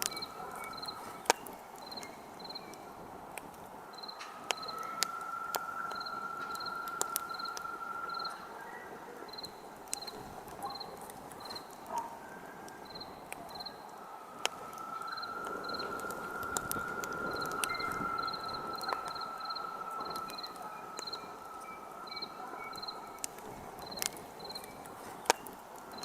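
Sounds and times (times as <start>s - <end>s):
campfire crackling and popping: 0.0s - 26.0s
crickets chirping: 0.0s - 26.0s
high insect trill: 0.0s - 26.0s.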